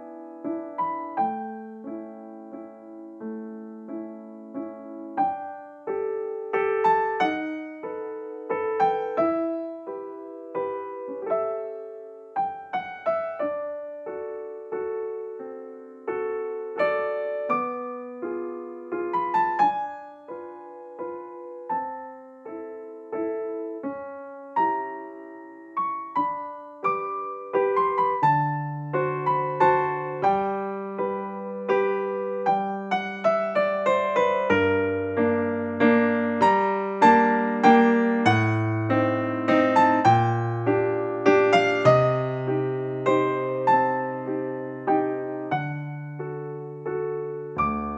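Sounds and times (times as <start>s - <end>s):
gentle piano melody: 0.0s - 47.9s.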